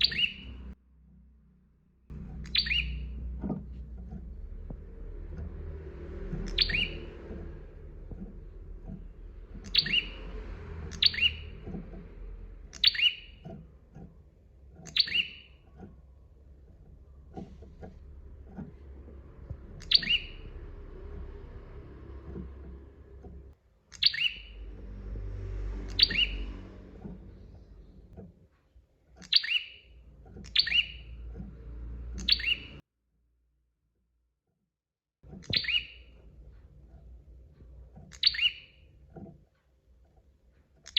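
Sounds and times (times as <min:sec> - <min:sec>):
bird chirping: 0:00.0 - 0:00.8, 0:02.1 - 0:28.2, 0:29.2 - 0:32.8, 0:35.3 - 0:36.4, 0:37.7 - 0:39.4.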